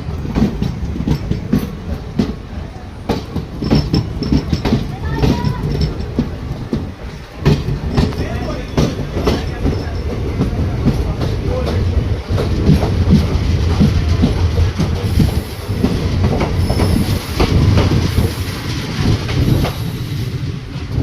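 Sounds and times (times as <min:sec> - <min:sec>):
train rumbling: 0:00.0 - 0:21.0
wheels clacking over rail joints: 0:00.0 - 0:21.0.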